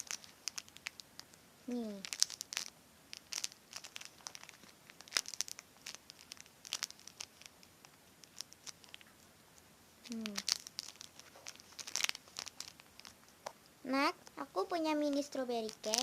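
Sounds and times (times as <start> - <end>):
squishy toy crinkling: 0.0 - 9.2, 10.0 - 16.0.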